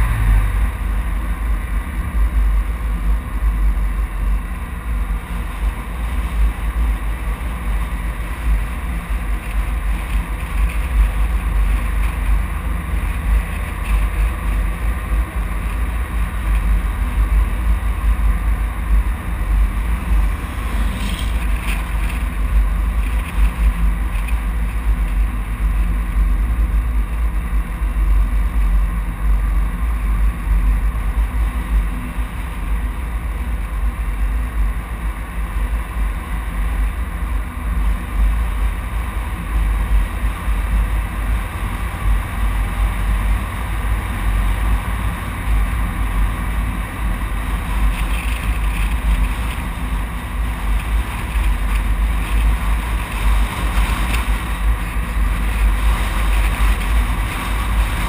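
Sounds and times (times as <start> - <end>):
road noise from moving vehicle: 0.0 - 58.0
wind rumble on microphone: 0.0 - 58.0.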